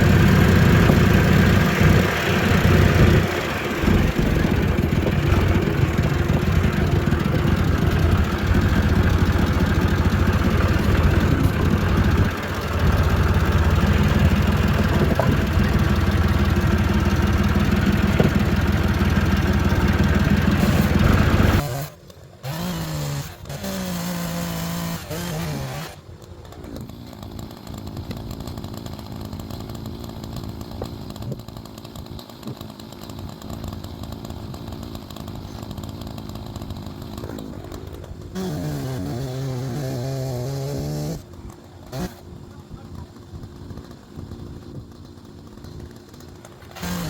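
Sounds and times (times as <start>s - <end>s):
chainsaw revving cutting logs: 0.0s - 47.0s.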